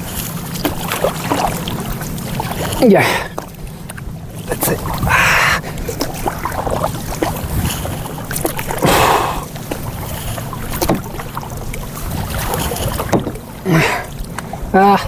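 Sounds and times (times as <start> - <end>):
paddle strokes splashing water: 0.0 - 15.0
steady low rumble: 0.0 - 15.0.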